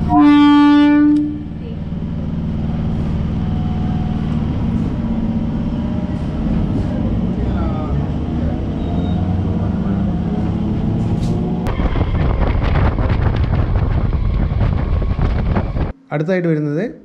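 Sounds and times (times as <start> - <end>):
train rattling at speed: 0.0 - 15.9
electric train hum: 0.0 - 16.1.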